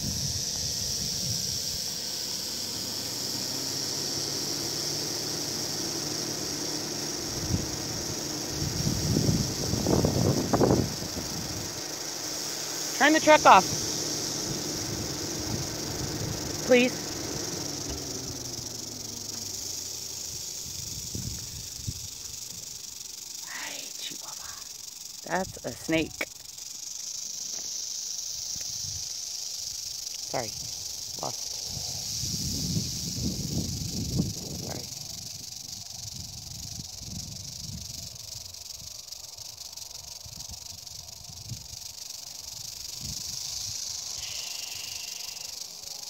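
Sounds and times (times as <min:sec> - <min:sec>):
rattlesnake rattling: 0:00.0 - 0:46.0.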